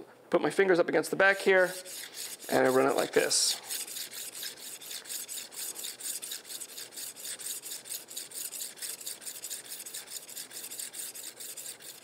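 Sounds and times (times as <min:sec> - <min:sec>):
diamond hone rubbing on blade: 0:01.2 - 0:12.0.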